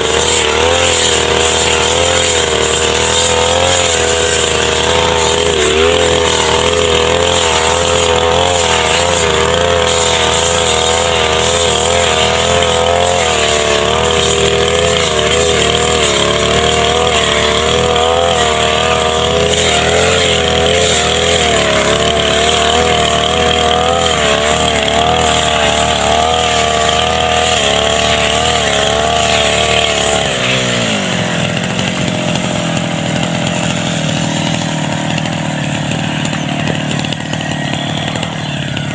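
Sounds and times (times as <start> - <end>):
brush cutter engine revving: 0.0 - 38.9.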